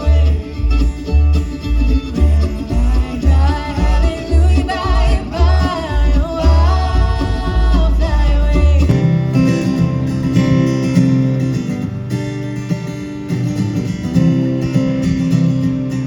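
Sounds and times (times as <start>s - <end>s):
acoustic guitar strumming: 0.0s - 16.0s
bluegrass band playing: 0.0s - 16.0s.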